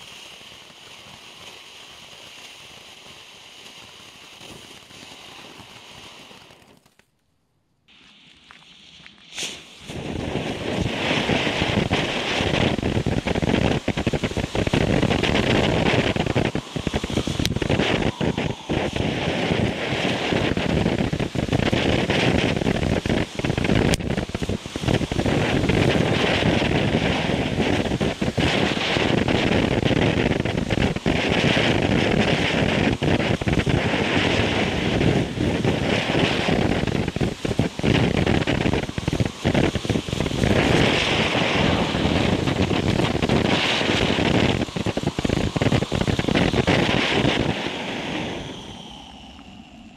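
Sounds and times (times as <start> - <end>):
firework fountain hissing and crackling: 0.0 - 7.1, 7.9 - 49.9.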